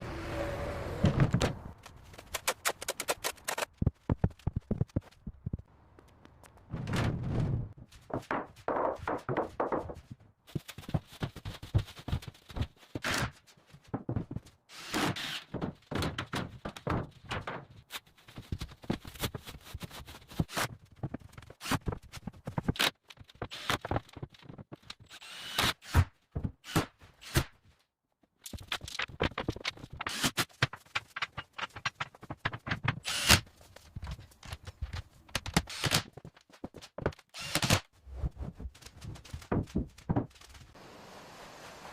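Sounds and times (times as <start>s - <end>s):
building work knocks and thuds: 1.0s - 2.2s, 3.7s - 5.7s, 6.6s - 14.6s, 15.2s - 25.1s, 26.3s - 26.9s, 28.5s - 40.7s.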